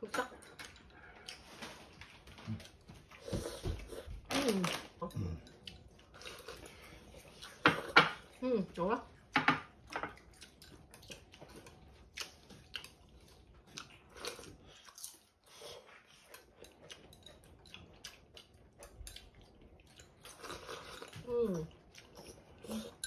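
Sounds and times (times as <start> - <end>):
chewing: 0.2 - 8.4, 9.2 - 23.0.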